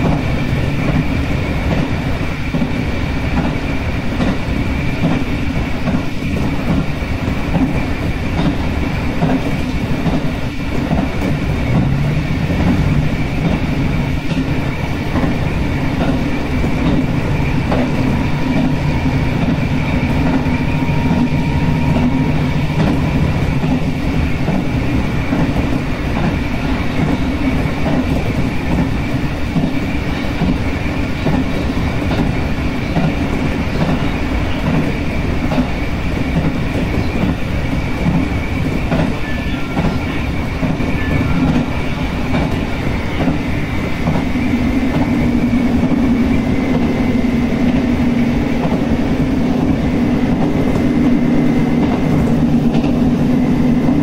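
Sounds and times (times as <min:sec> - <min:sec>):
train rumbling: 0:00.0 - 0:54.0
wheels clicking on rails: 0:00.0 - 0:54.0.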